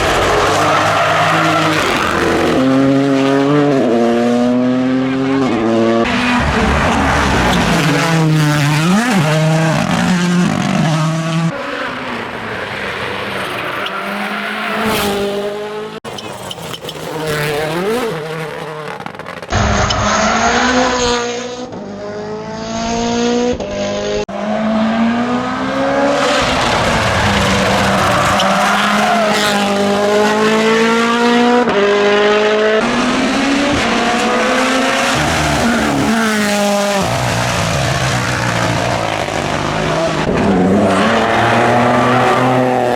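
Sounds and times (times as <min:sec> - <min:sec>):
rally car engines accelerating: 0:00.0 - 0:42.9.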